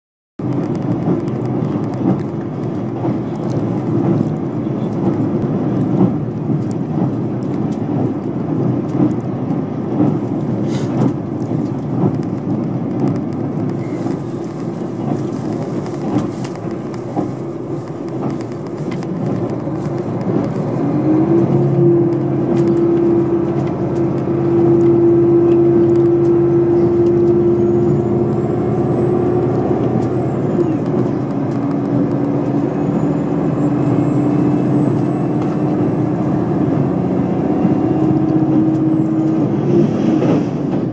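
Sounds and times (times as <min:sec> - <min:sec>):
rail ticks: 0:00.4 - 0:36.4, 0:37.6 - 0:40.9
diesel engine drone: 0:00.4 - 0:40.9
train wheels and engine rumble: 0:00.4 - 0:40.9.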